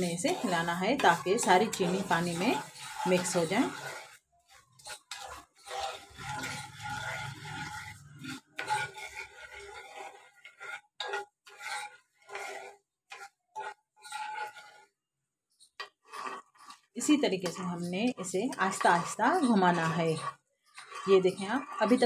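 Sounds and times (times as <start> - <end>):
spoon scraping metal pan: 0.0 - 22.0.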